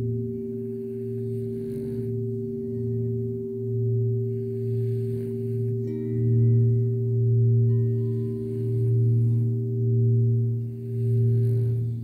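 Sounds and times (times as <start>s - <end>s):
deep singing bowl tone: 0.0s - 12.0s
high struck bowl tones: 0.0s - 12.0s.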